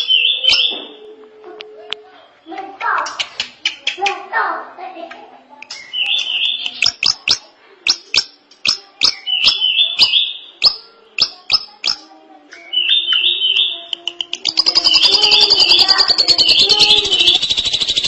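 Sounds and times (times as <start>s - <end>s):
bird warbled phrases: 0.0s - 1.0s, 2.2s - 18.0s.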